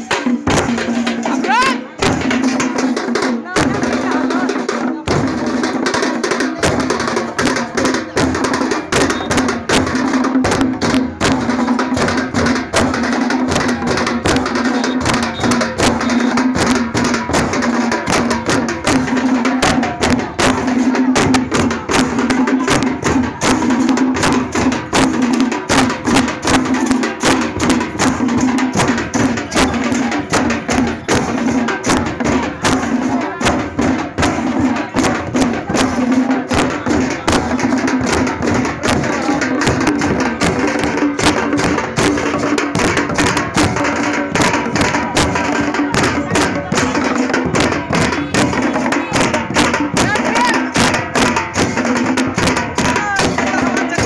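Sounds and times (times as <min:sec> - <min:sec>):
procession drums beating: 0:00.0 - 0:54.0.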